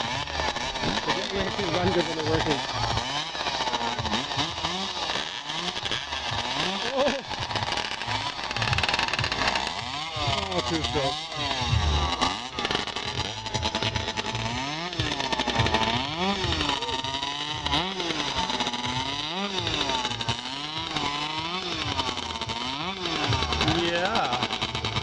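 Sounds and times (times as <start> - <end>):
chainsaw engine revving: 0.0 - 25.0.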